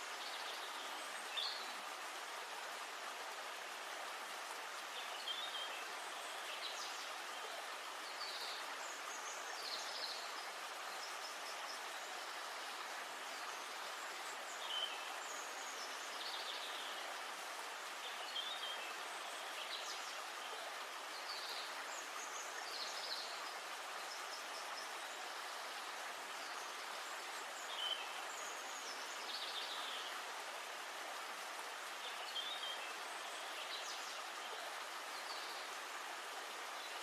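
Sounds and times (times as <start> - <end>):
outdoor ambience hiss: 0.0 - 37.0
songbirds chirping: 0.0 - 37.0.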